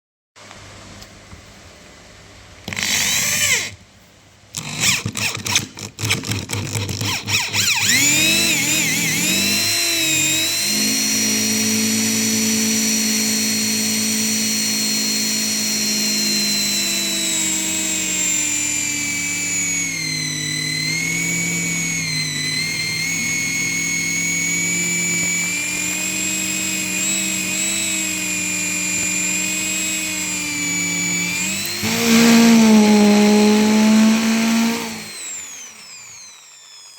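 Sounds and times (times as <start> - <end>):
electric drill motor whining: 2.7 - 3.8, 4.6 - 36.9.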